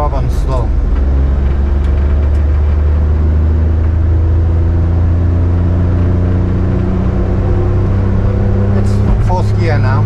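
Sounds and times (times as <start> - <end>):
truck engine droning under load: 0.0 - 10.0.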